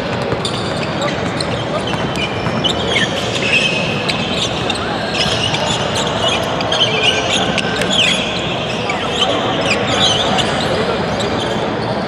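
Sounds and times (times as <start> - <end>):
sneakers squeaking on floor: 0.0 - 12.0.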